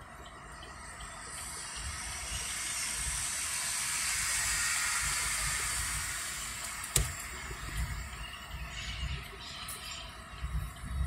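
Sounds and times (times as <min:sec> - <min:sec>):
traffic hiss: 0:00.0 - 0:11.0.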